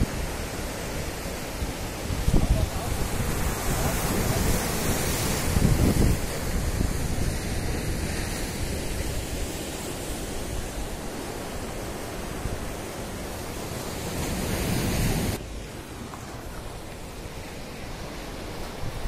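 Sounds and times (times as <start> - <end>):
wind on microphone: 0.0 - 15.4
surf breaking on rocky shore: 0.0 - 19.0.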